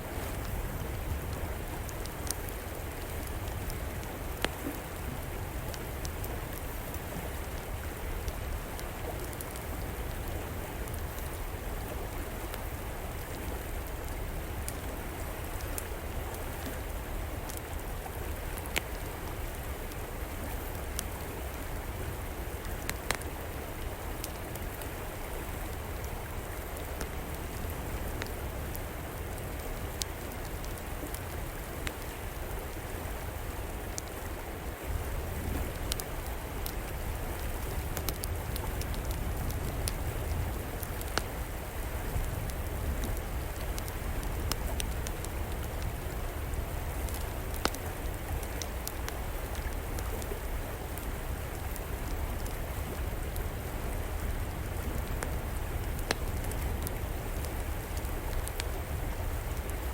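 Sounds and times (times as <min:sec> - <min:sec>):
river water flowing: 0:00.0 - 0:59.9
wood fire popping and crackling: 0:00.1 - 0:11.8, 0:22.2 - 0:59.9.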